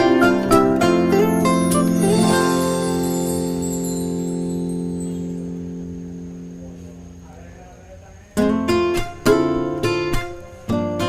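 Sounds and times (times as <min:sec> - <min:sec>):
acoustic guitar strumming chords: 0:00.0 - 0:07.2, 0:08.4 - 0:11.0.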